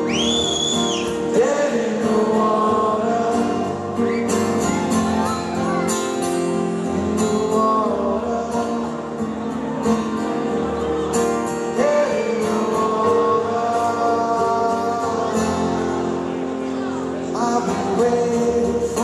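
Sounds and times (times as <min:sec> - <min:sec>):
live rock band playing: 0:00.0 - 0:19.0
strummed acoustic guitar: 0:00.0 - 0:19.0.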